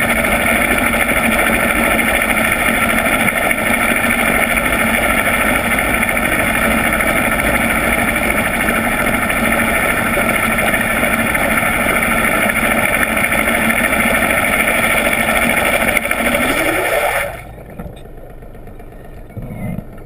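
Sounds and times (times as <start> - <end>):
boat engine drone underwater: 0.0 - 20.0.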